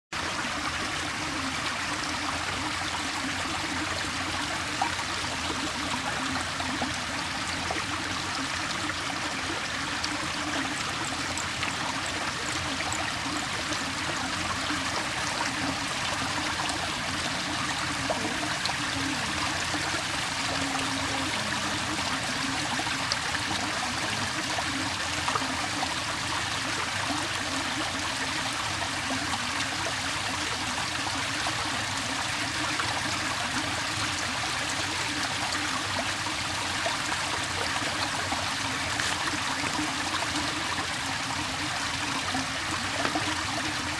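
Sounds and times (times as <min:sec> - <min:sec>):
water flowing: 0:00.2 - 0:43.9.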